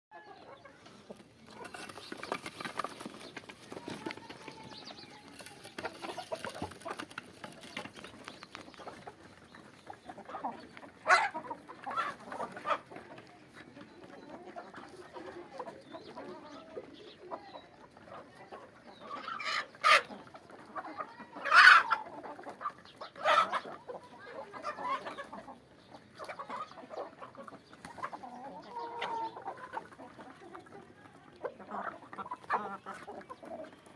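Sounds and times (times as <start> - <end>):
chickens clucking and calling: 0.1 - 33.9.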